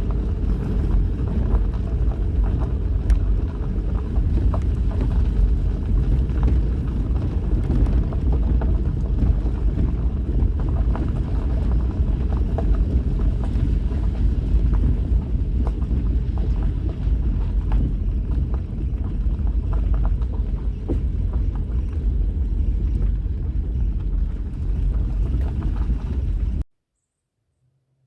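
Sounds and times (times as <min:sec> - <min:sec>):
vehicle driving on dirt road: 0:00.0 - 0:26.6.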